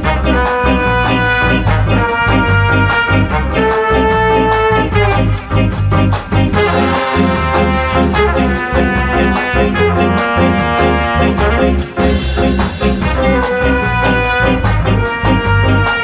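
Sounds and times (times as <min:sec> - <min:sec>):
brass horns holding notes: 0:00.0 - 0:16.0
quick drum beat: 0:00.0 - 0:16.0.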